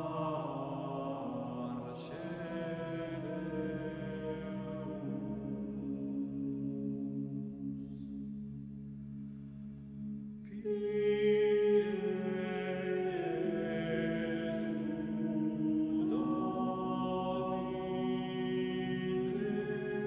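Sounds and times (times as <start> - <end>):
a cappella choir singing: 0.0 - 9.0, 10.5 - 20.0.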